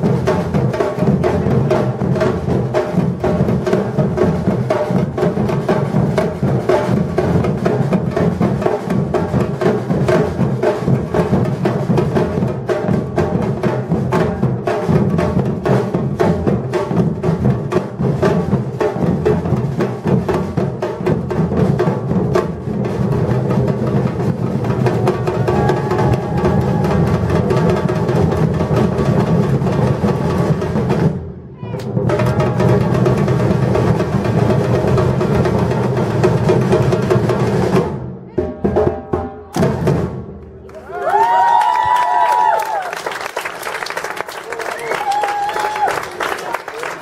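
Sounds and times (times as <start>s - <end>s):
drum ensemble playing fast rhythm: 0.0s - 40.4s.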